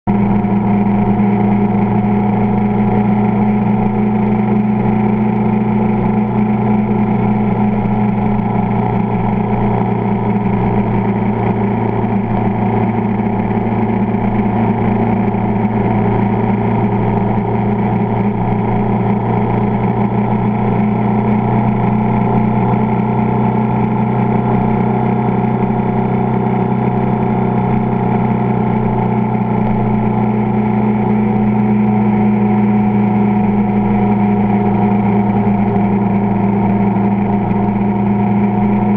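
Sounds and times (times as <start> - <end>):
vehicle engine and road noise: 0.1 - 38.9.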